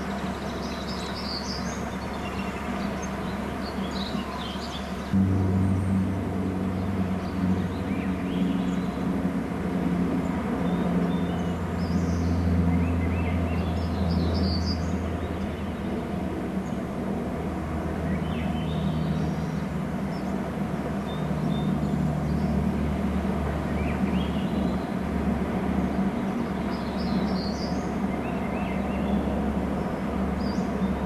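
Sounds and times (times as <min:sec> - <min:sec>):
distant motor droning: 0:00.0 - 0:31.0.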